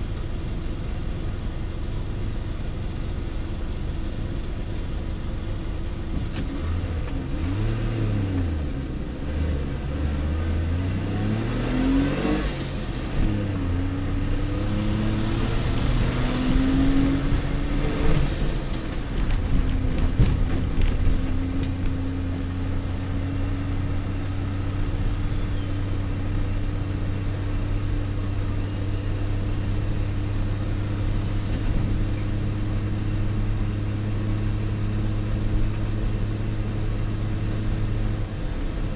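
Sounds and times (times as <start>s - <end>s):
two-stroke car engine: 0.0s - 38.9s.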